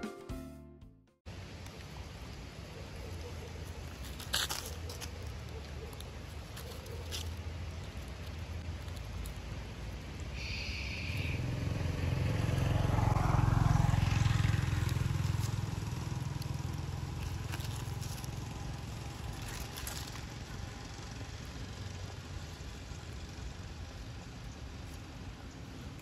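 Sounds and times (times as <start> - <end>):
vehicle engine rumble passing: 3.7 - 26.0.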